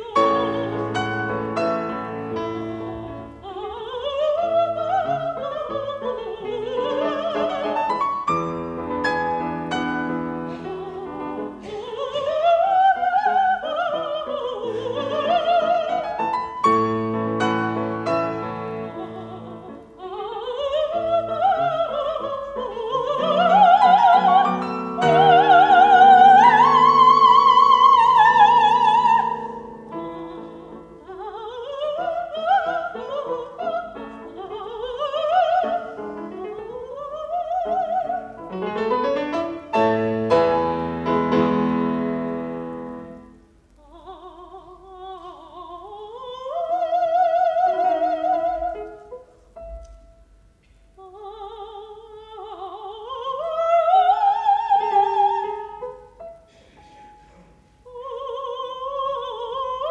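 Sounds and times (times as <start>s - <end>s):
operatic soprano singing: 0.0s - 40.0s, 41.3s - 49.4s, 50.9s - 56.2s, 57.8s - 59.9s
grand piano: 0.0s - 59.9s.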